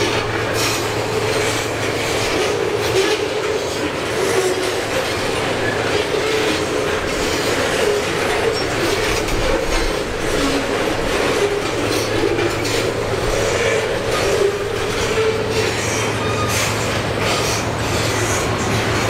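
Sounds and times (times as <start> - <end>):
train rumble: 0.0 - 19.0
train wheels clacking: 0.0 - 19.0
wheel squeal: 0.0 - 19.0.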